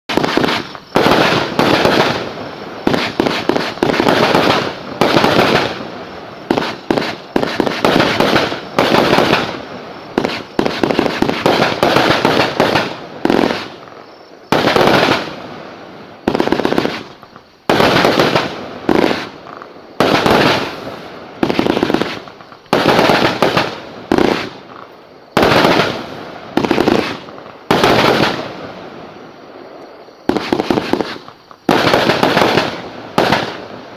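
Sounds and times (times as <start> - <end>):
firework bangs: 0.1 - 33.9
firework crackle: 0.1 - 33.9.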